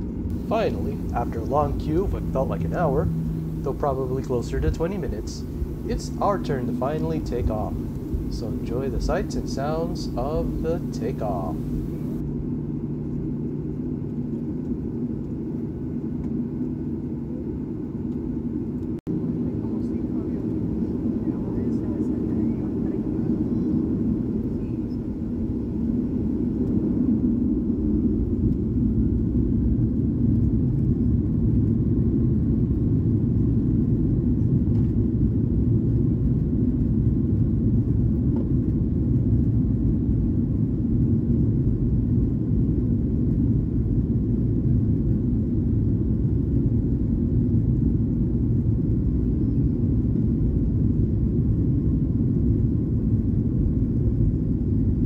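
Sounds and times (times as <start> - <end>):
aircraft cabin engine rumble: 0.0 - 55.0.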